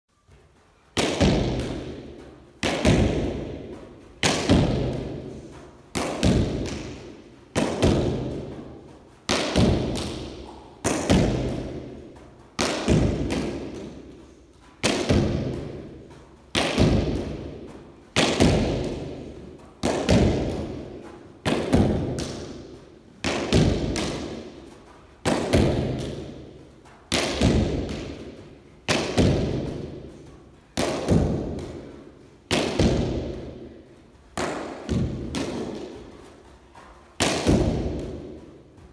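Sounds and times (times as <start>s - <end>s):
ball smacking wall with echo: 0.2s - 38.9s
stick striking leather ball: 0.9s - 38.9s.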